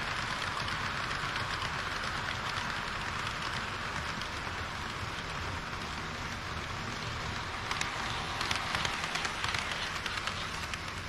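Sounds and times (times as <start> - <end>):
model train wheels rattling: 0.0 - 11.0.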